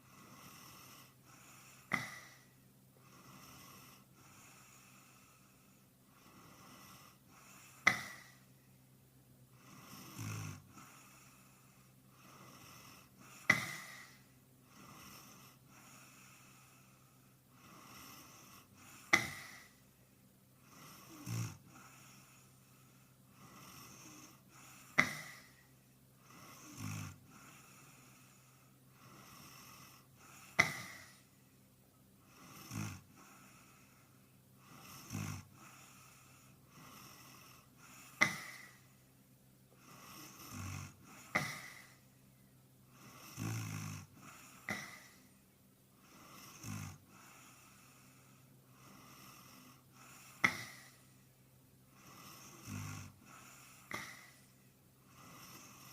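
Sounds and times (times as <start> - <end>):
person snoring: 0.0 - 8.5, 9.6 - 19.9, 20.6 - 31.4, 32.3 - 39.0, 39.7 - 42.1, 42.9 - 45.4, 46.0 - 51.2, 51.9 - 55.9.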